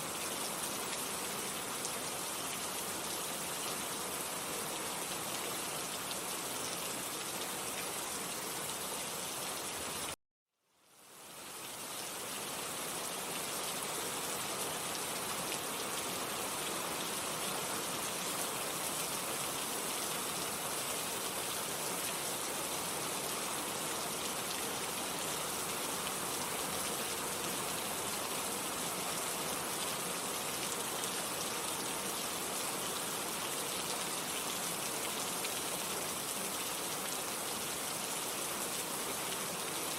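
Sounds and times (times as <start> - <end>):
rain hiss: 0.0 - 10.2, 10.8 - 39.9.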